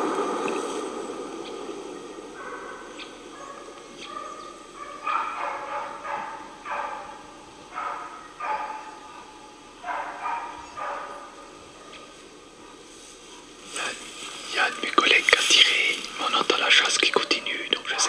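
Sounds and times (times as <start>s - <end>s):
hounds baying: 0.0s - 18.0s.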